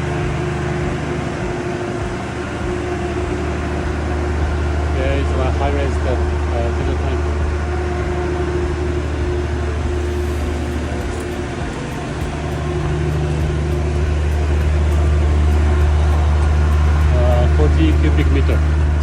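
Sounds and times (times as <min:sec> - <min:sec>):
large engine droning: 0:00.0 - 0:19.0.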